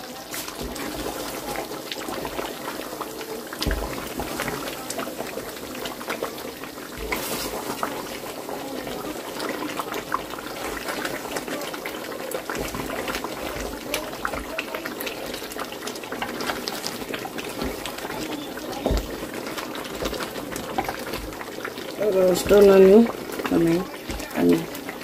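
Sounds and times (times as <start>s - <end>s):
curry sizzling and bubbling in pot: 0.0s - 25.0s
spatula stirring: 0.2s - 25.0s.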